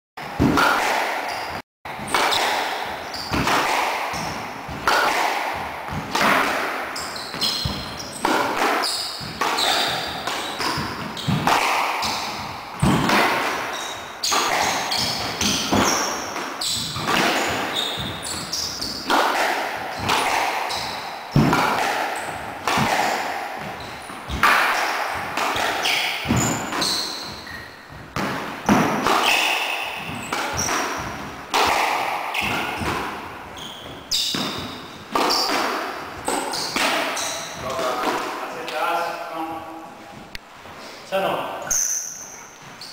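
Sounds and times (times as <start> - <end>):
squash ball hits: 0.2 - 38.8
shoes squeaking on wooden floor: 1.2 - 5.0, 5.9 - 39.2, 39.9 - 42.9.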